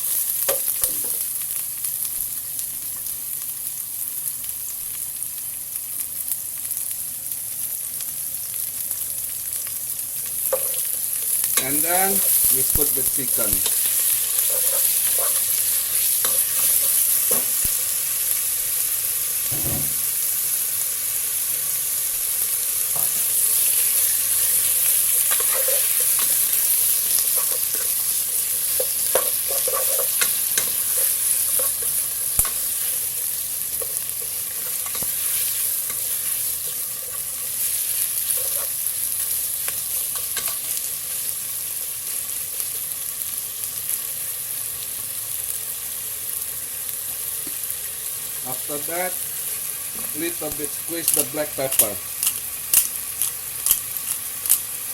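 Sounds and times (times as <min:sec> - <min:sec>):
chicken sizzling in hot oil: 0:00.0 - 0:54.9.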